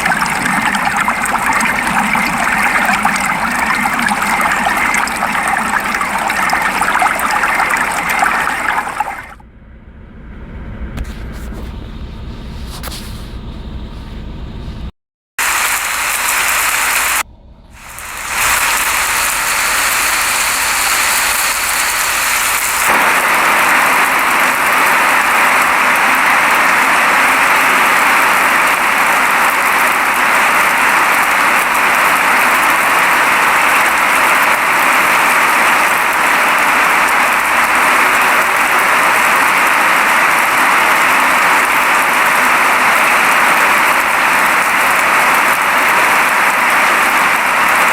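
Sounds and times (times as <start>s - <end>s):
steady rain falling: 0.0s - 9.2s, 15.4s - 17.2s, 17.8s - 47.9s.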